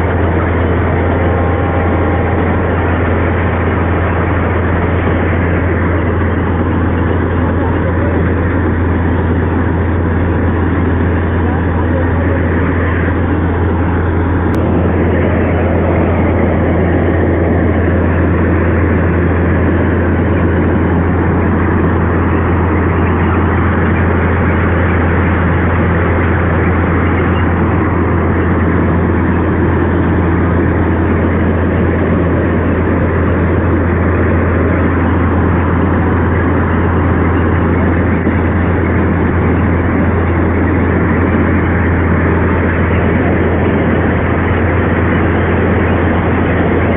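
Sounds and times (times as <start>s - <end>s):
heavy engine running: 0.0s - 46.9s.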